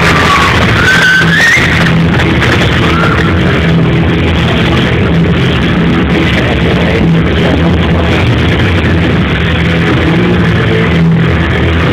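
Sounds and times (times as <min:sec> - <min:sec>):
loud rock music: 0:00.0 - 0:11.9.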